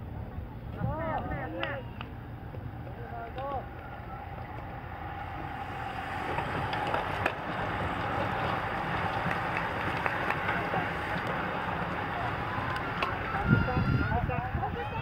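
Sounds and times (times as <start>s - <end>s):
bicycle tyres whirring on pavement: 0.6s - 15.0s
freewheels buzzing: 2.0s - 15.0s.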